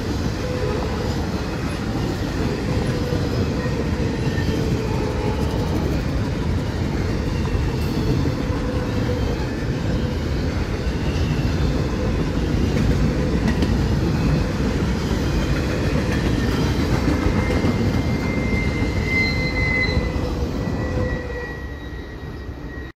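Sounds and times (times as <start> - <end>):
freight train wheels rumbling on rail: 0.0 - 22.9
high wheel squeal: 0.4 - 23.0.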